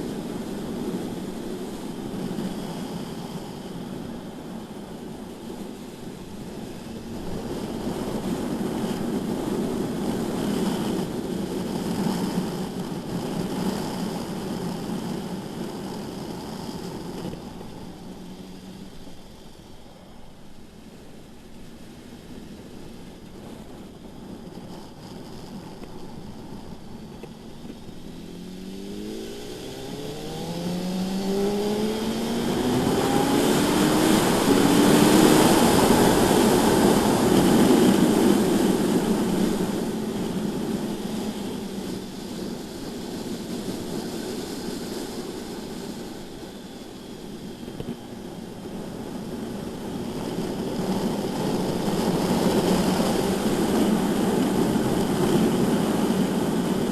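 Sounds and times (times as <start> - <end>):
motorcycle engine accelerating: 0.0 - 20.8, 21.7 - 56.9
wind noise: 0.0 - 56.9.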